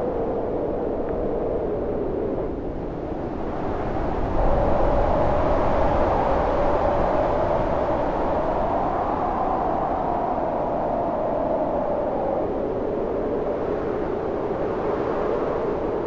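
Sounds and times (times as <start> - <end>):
howling storm wind: 0.0 - 16.0.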